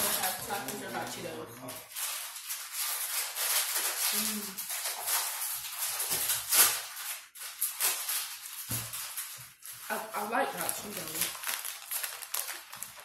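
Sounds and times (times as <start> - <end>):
chips crinkling and crunching: 0.0 - 13.0.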